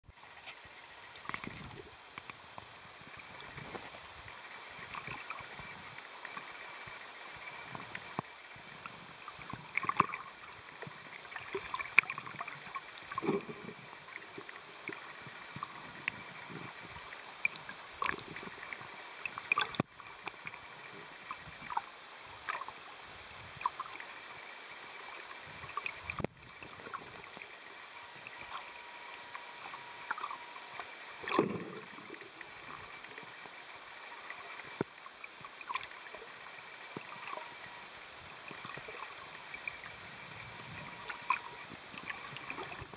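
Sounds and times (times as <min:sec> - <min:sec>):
faint high whine: 0:00.1 - 0:42.9
underwater hiss: 0:00.1 - 0:42.9
underwater clicks and crackles: 0:00.2 - 0:22.8, 0:23.6 - 0:42.9.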